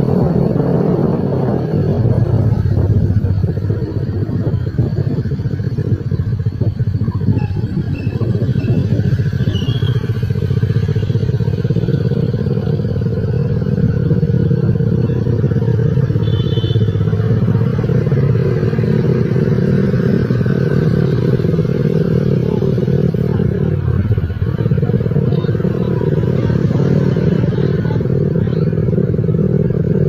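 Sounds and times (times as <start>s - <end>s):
road and wind noise: 0.0s - 30.0s
scooter engine running: 0.0s - 30.0s.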